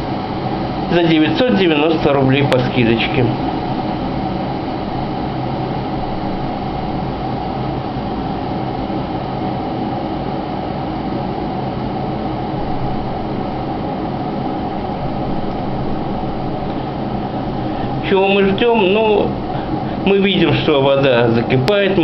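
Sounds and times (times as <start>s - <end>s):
electric kettle heating water: 0.0s - 22.0s.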